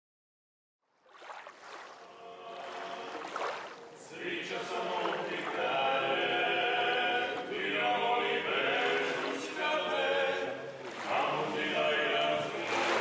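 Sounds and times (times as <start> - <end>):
choral singing: 2.0 - 13.0.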